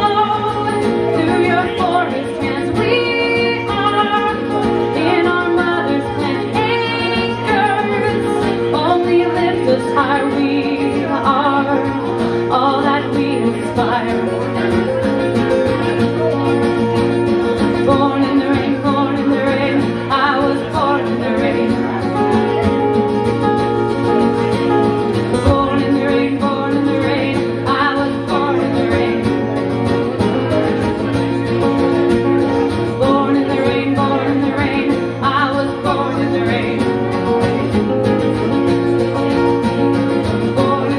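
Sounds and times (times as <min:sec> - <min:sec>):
woman singing: 0:00.0 - 0:15.0, 0:17.6 - 0:22.9, 0:25.1 - 0:31.2, 0:32.2 - 0:40.9
strummed guitars: 0:00.0 - 0:40.9.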